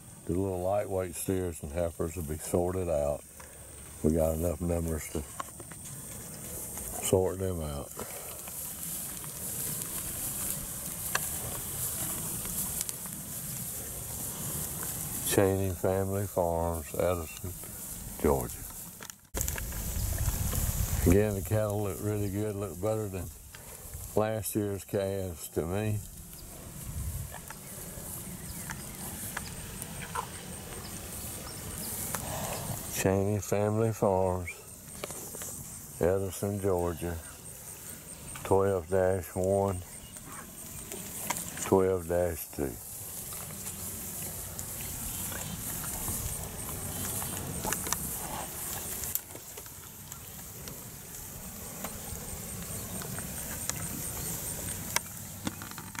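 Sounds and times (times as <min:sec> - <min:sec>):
cattle hooves knocking: 0:02.1 - 0:18.8, 0:19.4 - 0:34.0, 0:38.2 - 0:56.0.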